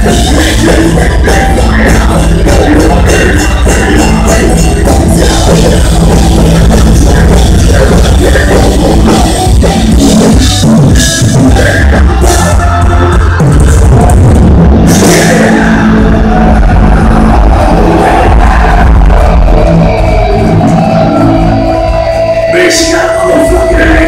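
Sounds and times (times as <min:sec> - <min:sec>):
fast drum kit: 0:00.0 - 0:21.8
heavy electric guitars: 0:00.0 - 0:24.0.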